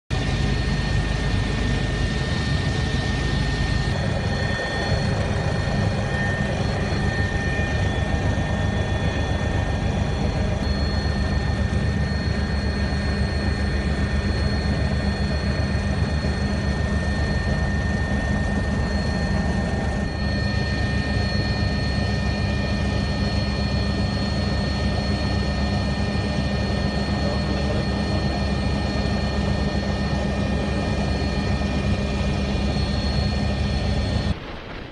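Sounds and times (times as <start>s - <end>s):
aircraft engine rumble: 0.1s - 34.9s
high turbine whine: 0.1s - 34.9s.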